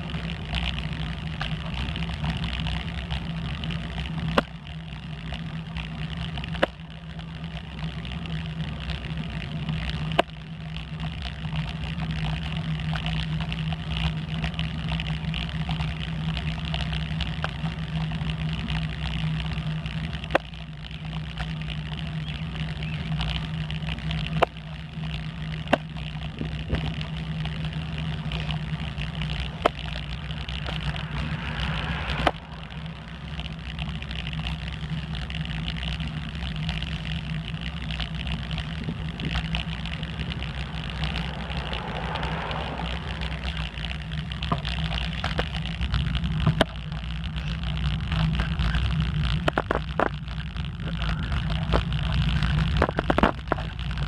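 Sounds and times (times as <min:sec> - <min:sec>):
low motor drone: 0:00.0 - 0:54.0.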